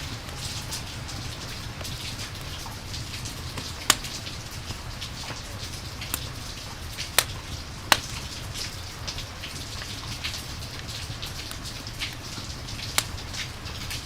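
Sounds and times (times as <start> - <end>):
campfire pops and crackles: 0.0 - 14.0
rain hissing: 0.0 - 14.0.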